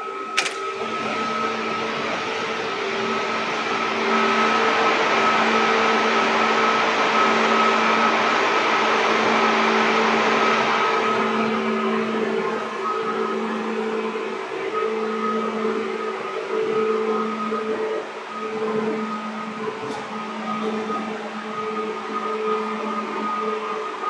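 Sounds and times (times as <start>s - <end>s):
electric train rolling: 0.0s - 24.0s
humming tones: 0.0s - 24.0s.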